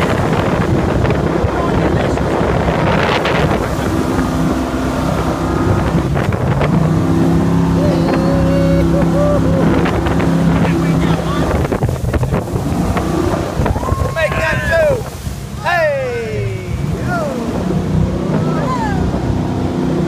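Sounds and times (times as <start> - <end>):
boat engine drone: 0.0 - 20.0
rushing water: 0.0 - 20.0
wind buffeting microphone: 0.0 - 20.0.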